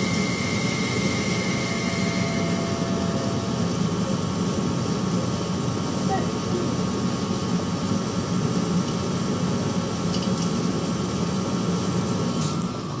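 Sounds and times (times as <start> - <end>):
pellet stove low drone: 0.0 - 13.0
thin steady whine: 0.0 - 13.0.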